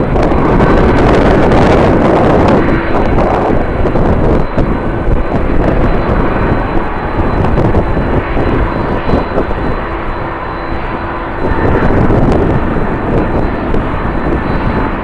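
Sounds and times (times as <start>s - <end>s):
jet engine whine: 0.0s - 15.0s
wind buffeting microphone: 0.0s - 15.0s.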